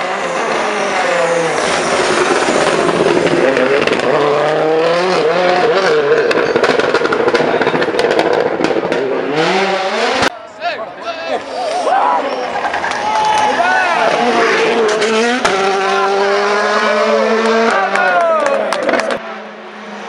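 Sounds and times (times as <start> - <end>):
rally car engine revving: 0.0 - 10.3, 13.8 - 20.0.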